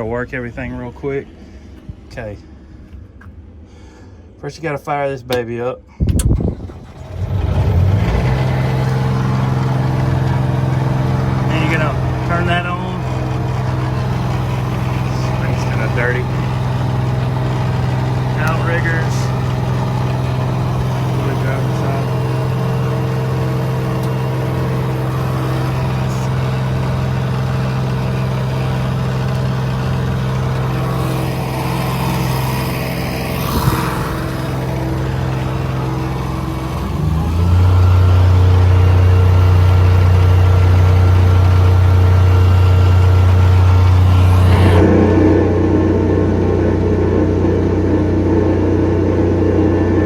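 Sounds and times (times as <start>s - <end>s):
power unit engine running: 6.3s - 50.0s.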